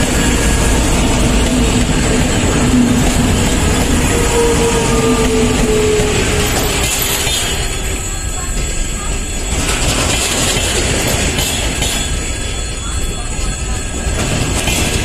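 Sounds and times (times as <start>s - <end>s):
high wheel squeal: 0.0s - 14.6s
train wheels rumbling on rail: 0.0s - 15.0s.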